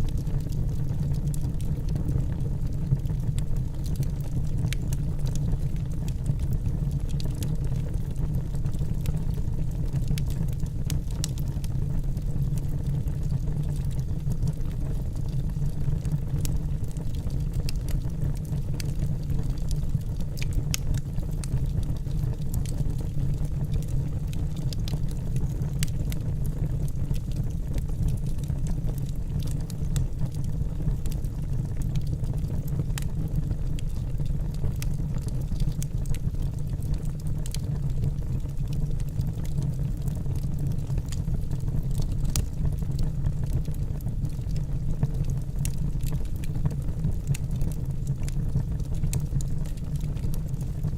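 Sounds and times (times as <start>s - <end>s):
logs crackling and popping: 0.0s - 50.9s.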